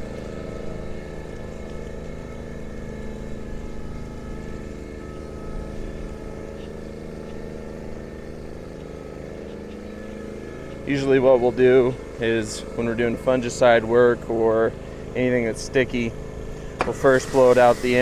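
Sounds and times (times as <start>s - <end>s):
water pump running: 0.0s - 18.0s.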